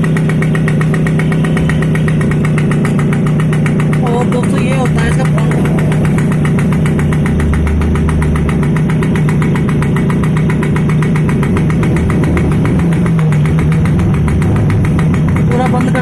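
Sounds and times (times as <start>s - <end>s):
moped engine idling: 0.0s - 16.0s.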